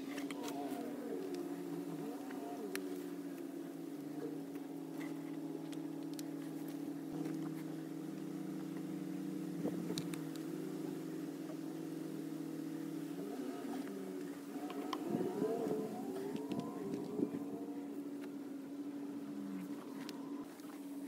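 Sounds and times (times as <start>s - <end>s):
faint clicks: 0.0s - 20.9s
engine running steadily: 0.0s - 21.0s.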